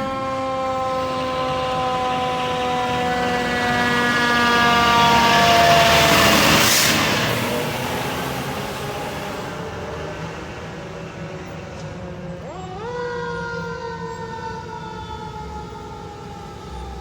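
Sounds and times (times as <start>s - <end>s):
engine and road noise rushing: 0.0s - 17.0s
fire truck siren: 0.0s - 17.0s.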